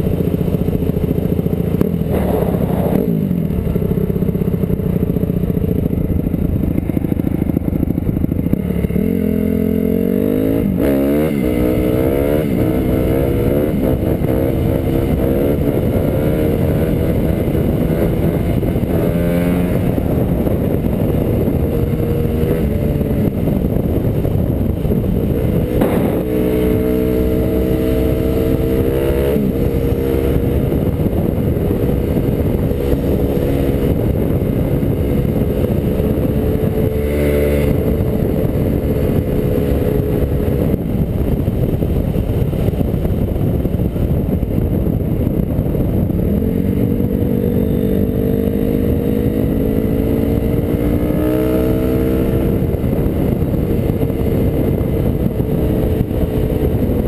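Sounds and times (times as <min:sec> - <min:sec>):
motorcycle engine running: 0:00.0 - 0:57.0
wind rush on helmet: 0:00.0 - 0:57.0.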